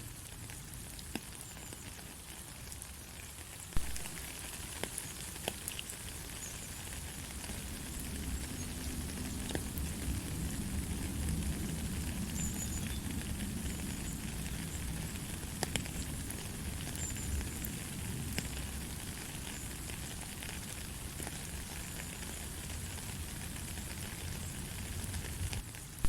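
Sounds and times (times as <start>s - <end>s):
light rain hissing: 0.0s - 26.0s
raindrop ticks: 3.7s - 26.0s.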